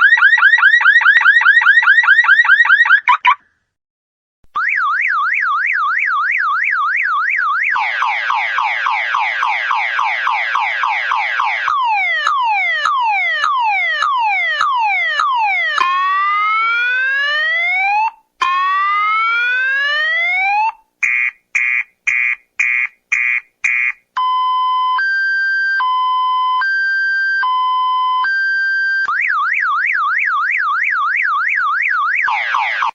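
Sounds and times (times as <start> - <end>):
car alarm siren: 0.0 - 3.4, 4.6 - 32.9.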